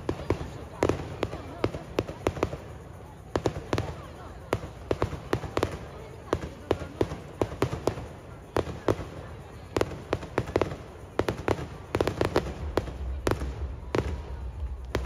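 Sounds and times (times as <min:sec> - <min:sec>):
firework bangs and crackles: 0:00.0 - 0:15.0.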